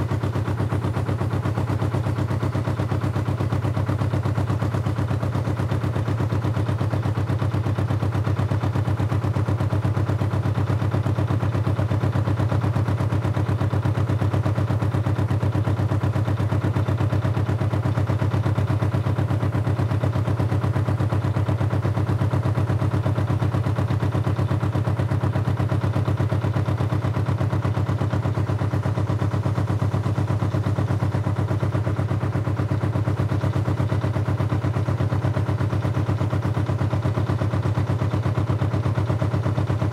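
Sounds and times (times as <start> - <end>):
engine chugging steadily: 0.0 - 39.9.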